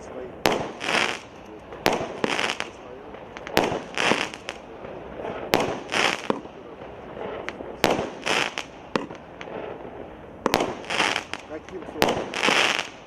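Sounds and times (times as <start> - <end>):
firework launch pops: 0.0 - 9.8, 10.4 - 13.0
firework bursts hissing: 0.0 - 13.0.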